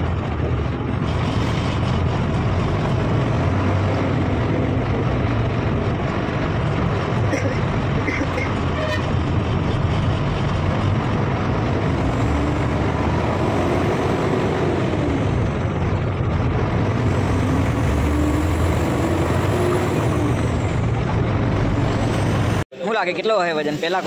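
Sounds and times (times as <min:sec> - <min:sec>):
large vehicle engine drone: 0:00.0 - 0:22.7
road noise: 0:00.0 - 0:24.0.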